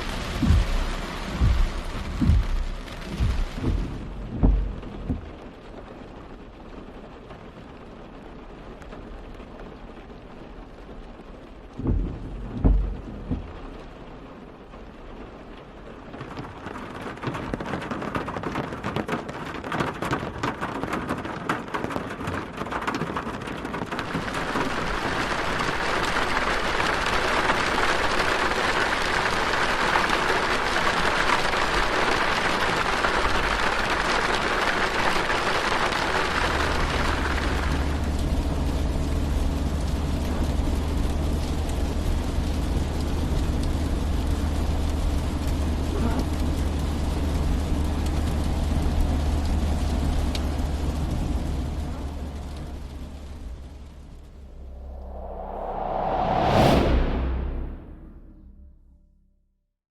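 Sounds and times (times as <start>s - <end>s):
low car rumble: 0.0s - 18.2s, 21.8s - 59.4s
heavy rain on car roof: 0.0s - 54.4s.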